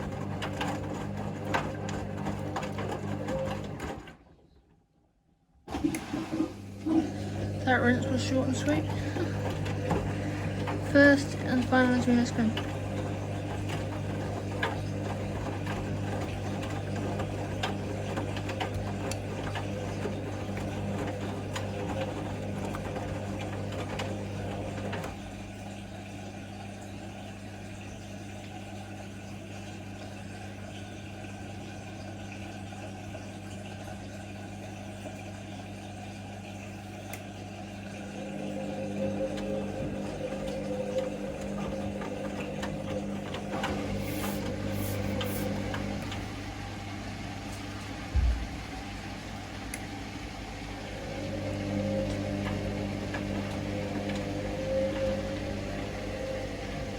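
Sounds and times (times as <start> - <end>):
washing machine spinning hum: 0.0 - 4.6, 5.3 - 56.9.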